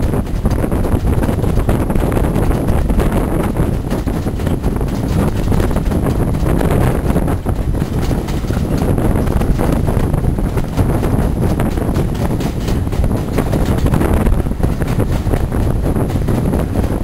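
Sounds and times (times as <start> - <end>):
train wheels clattering on rails: 0.0 - 17.0
wind buffeting microphone: 0.0 - 17.0.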